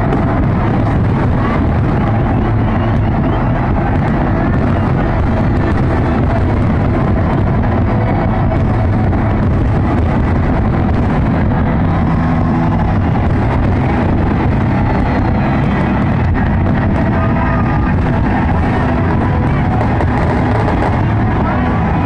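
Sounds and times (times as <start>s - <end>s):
fireworks booms and crackles: 0.0s - 22.0s.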